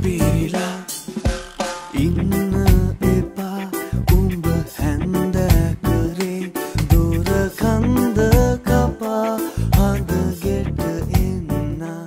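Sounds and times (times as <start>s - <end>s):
song with steady beat: 0.0s - 12.0s.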